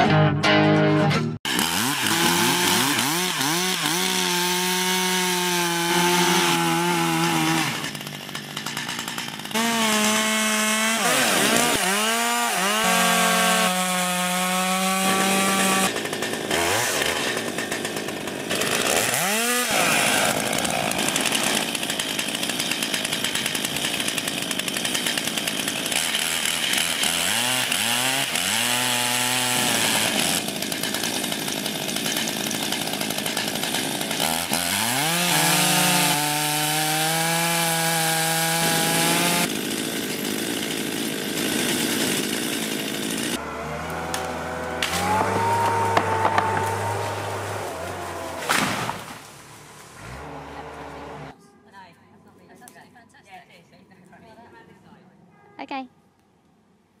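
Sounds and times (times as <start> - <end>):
chainsaw cutting wood: 1.5 - 51.4.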